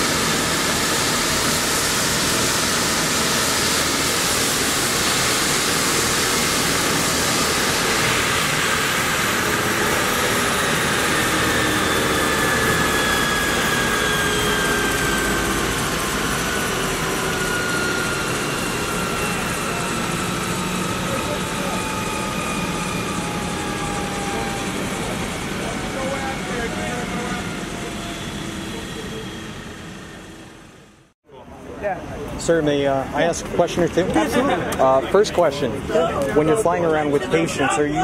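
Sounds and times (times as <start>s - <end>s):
helicopter turbines spooling down: 0.0s - 38.0s.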